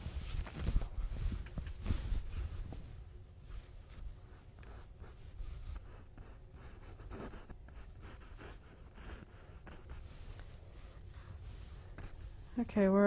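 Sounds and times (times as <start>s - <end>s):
brush strokes on canvas: 0.0s - 13.0s.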